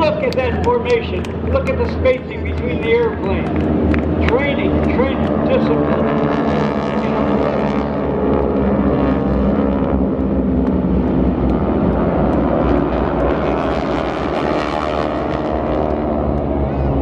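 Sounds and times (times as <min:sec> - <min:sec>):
airplane engines droning: 0:00.0 - 0:17.0.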